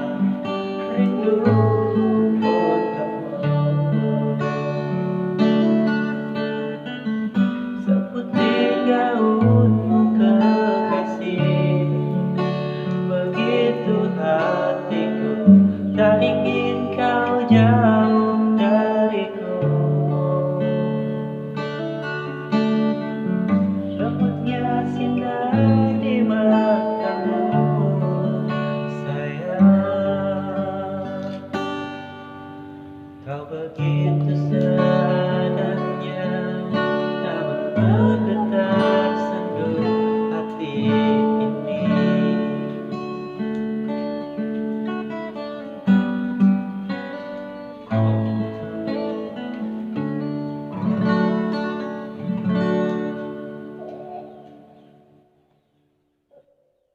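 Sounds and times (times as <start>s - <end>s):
person singing: 0.0s - 22.5s, 23.5s - 32.2s, 33.2s - 43.6s, 46.7s - 55.3s
acoustic guitar strumming: 0.0s - 56.7s.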